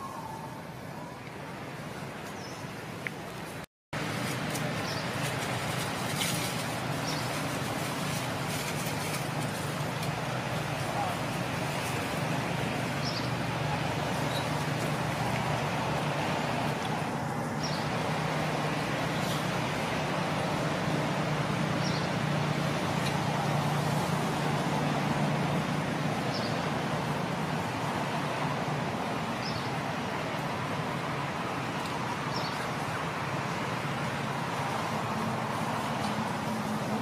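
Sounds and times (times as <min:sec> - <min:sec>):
distant road traffic hum: 0:00.0 - 0:37.0.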